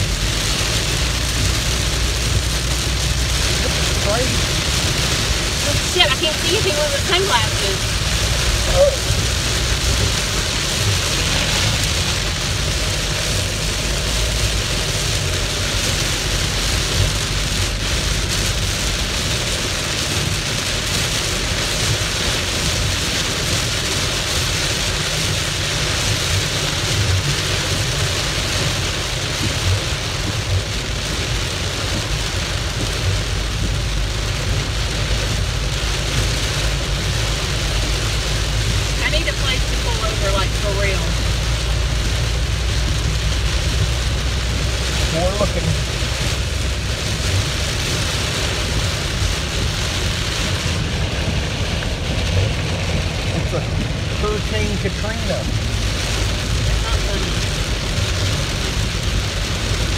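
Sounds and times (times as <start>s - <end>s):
heavy rain on car roof: 0.0s - 59.9s
low rumble of moving car: 0.0s - 59.9s.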